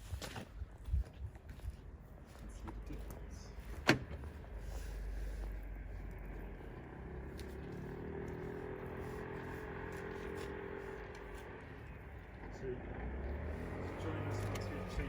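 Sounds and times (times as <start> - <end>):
engine humming: 1.8 - 15.0.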